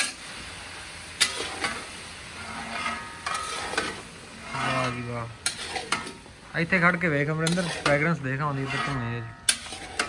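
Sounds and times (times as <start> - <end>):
meat sizzling in oil: 0.0 - 10.0
metal ladle scraping pan: 1.2 - 10.0.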